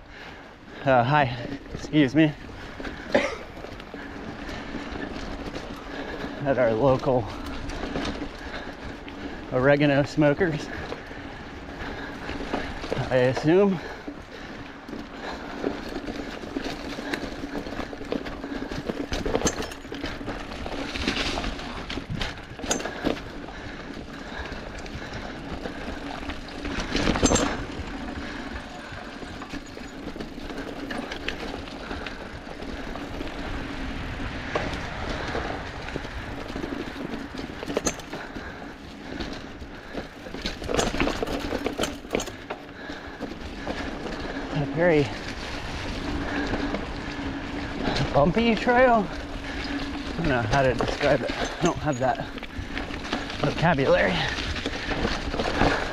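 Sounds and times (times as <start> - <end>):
bike tyres rolling on dirt: 0.0 - 55.9
bike knocking and rattling: 0.1 - 55.9.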